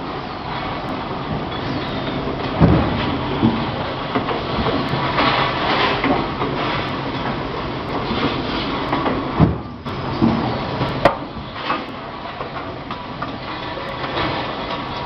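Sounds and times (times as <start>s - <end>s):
factory machinery running: 0.0s - 15.0s.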